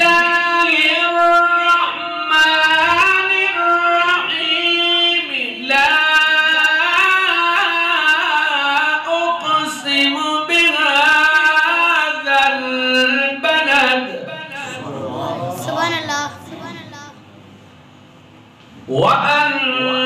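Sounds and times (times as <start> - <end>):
man reciting melodically: 0.0 - 17.2, 18.8 - 20.0.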